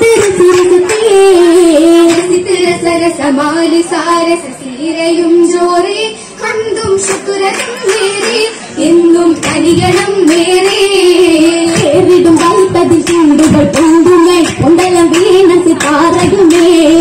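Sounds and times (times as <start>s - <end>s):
girls singing: 0.0s - 17.0s.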